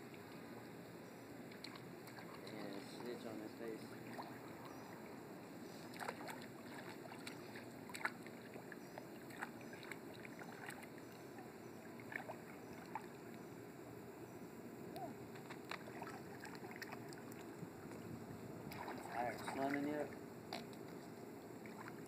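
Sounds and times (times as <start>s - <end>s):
pool water lapping and splashing: 0.0s - 14.2s, 14.8s - 22.0s
low background noise: 0.0s - 22.0s.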